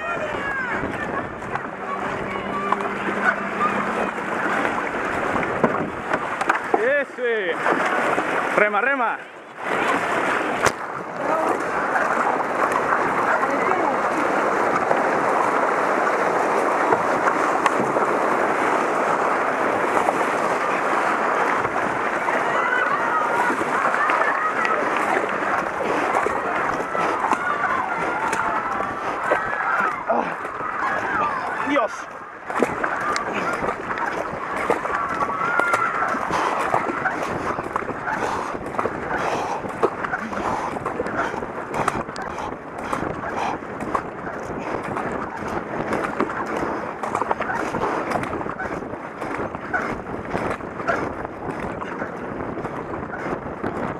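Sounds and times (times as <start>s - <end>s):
paddle splashes: 0.0s - 53.9s
whitewater rushing: 0.0s - 53.9s
wind buffeting microphone: 0.0s - 53.9s.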